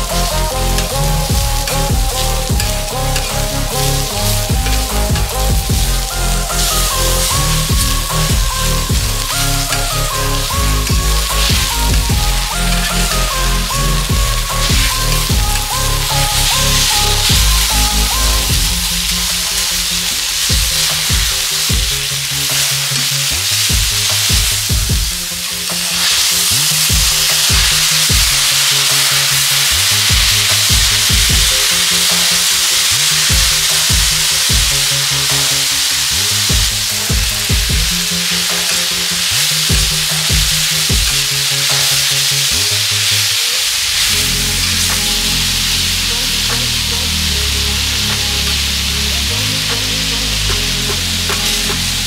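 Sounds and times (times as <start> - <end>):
background music: 0.0 - 52.0
food sizzling on a griddle: 0.0 - 52.0.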